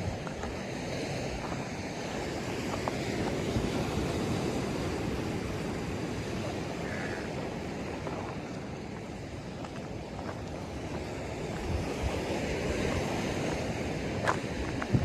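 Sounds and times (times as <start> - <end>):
ocean surf washing ashore: 0.0 - 15.0
wind on microphone: 0.0 - 15.0.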